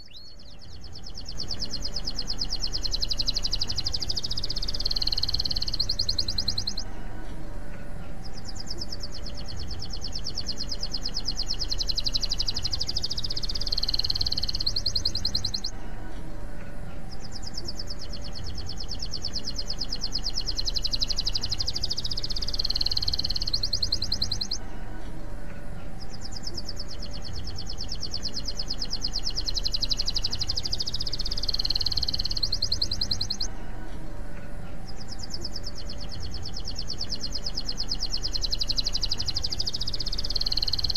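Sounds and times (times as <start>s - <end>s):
canary singing trills: 0.0s - 16.1s, 16.7s - 33.9s, 34.5s - 40.9s.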